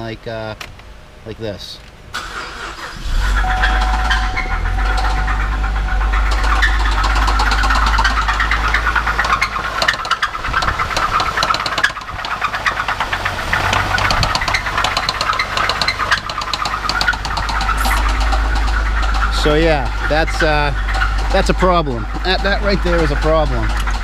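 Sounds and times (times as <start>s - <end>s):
car engine starting: 0.6s - 24.0s
engine idling with rapid knocking: 3.2s - 24.0s.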